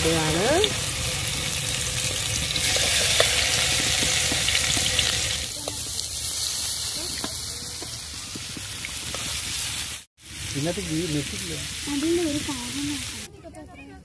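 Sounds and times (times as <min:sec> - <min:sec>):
fish sizzling in frying pan: 0:00.0 - 0:13.3.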